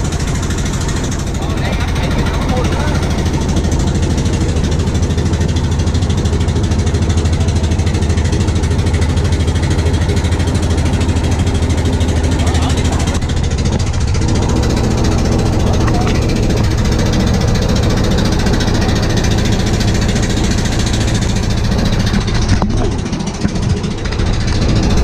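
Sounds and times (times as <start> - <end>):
boat engine throbbing: 0.0 - 25.0.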